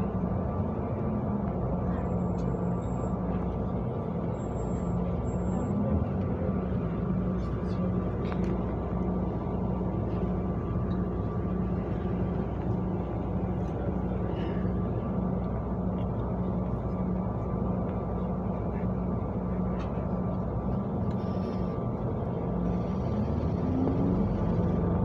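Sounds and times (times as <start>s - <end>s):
bus engine drone: 0.0s - 25.0s
road and body noise: 0.0s - 25.0s.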